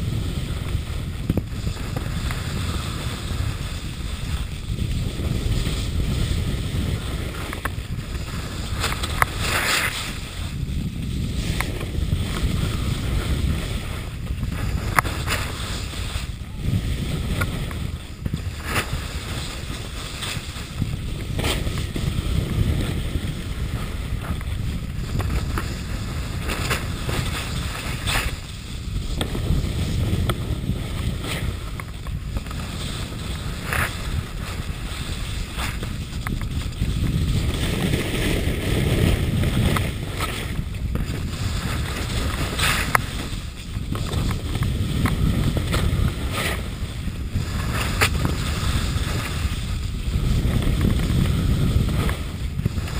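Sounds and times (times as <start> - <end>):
ski edges scraping snow: 0.0 - 52.9
wind rushing over microphone: 0.0 - 52.9.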